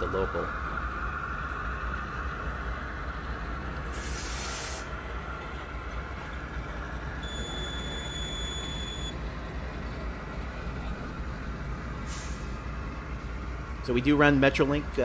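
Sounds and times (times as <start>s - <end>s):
model train rumbling on track: 0.0s - 8.0s, 9.2s - 15.0s.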